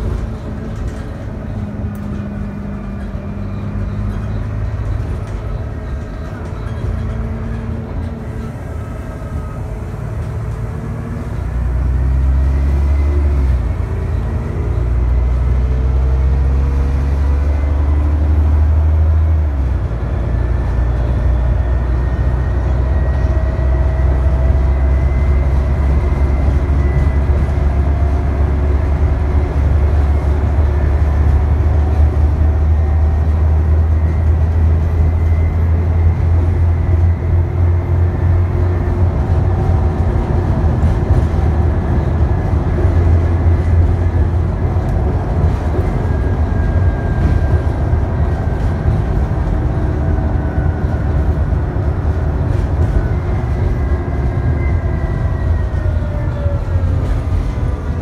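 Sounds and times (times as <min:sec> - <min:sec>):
bus diesel engine working hard: 0:00.0 - 0:58.0.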